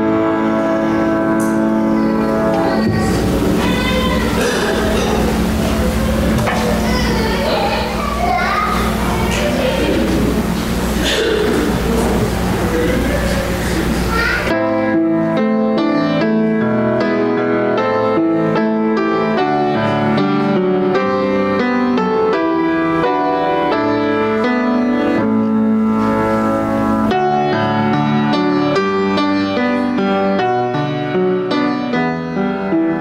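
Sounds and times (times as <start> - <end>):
piano playing: 0.0 - 33.0.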